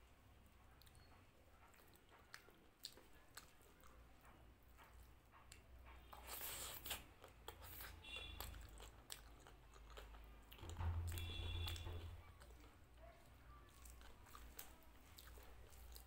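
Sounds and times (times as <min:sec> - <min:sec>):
chewing crispy food: 0:00.4 - 0:16.0.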